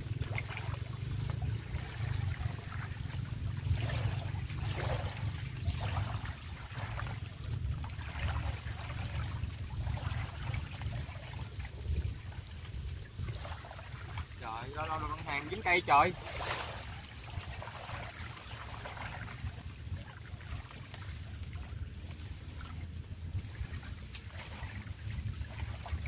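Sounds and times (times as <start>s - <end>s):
small waves lapping: 0.0s - 26.0s
wind rumble on microphone: 0.0s - 26.0s.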